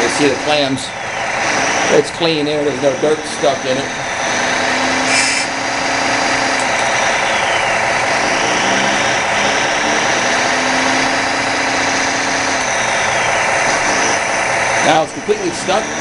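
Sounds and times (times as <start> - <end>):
high whine: 0.0 - 16.0
toy excavator diesel engine sound: 0.0 - 16.0.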